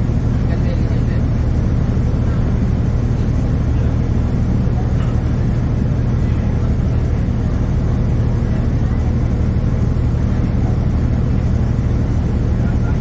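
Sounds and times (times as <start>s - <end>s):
bus engine low rumble: 0.0s - 13.0s.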